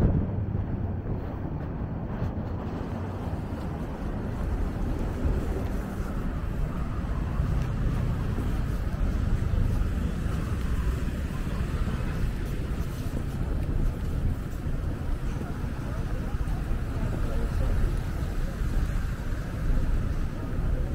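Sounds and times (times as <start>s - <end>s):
traffic rumble: 0.0s - 20.9s
wind buffeting microphone: 0.0s - 20.9s.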